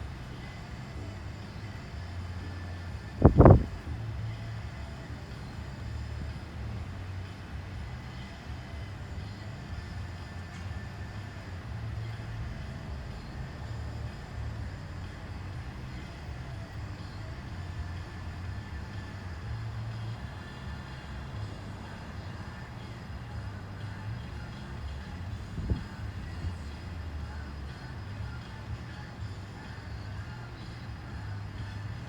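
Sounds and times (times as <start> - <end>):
car cabin road and engine noise: 0.0 - 32.0.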